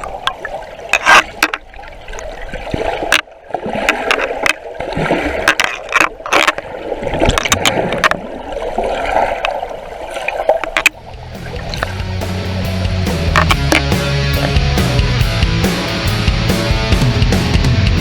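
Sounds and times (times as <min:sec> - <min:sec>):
water splashing and gurgling: 0:00.0 - 0:15.4.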